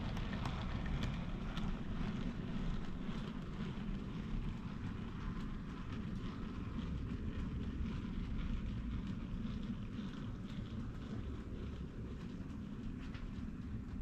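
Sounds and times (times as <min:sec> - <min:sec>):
model train rumbling: 0:00.0 - 0:14.0.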